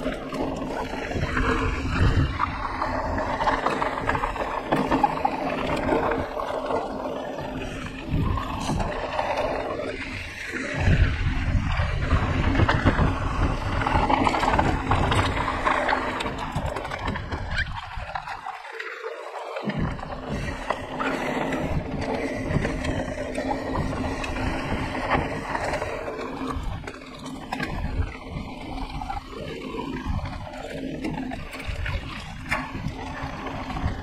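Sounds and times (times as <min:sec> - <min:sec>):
wind rushing over microphone: 0:00.0 - 0:18.4, 0:19.7 - 0:34.0
bike clicks and rattles: 0:00.0 - 0:34.0.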